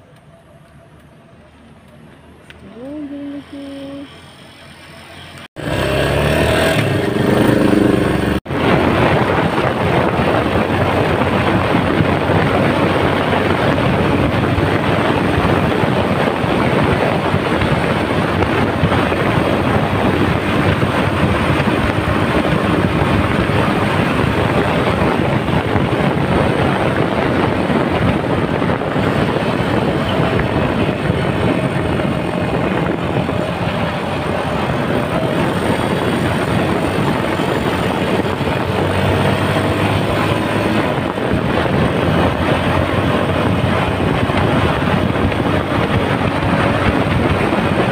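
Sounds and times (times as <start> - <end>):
motorcycle engine running: 0.0 - 47.9
wind buffeting microphone: 5.5 - 47.9.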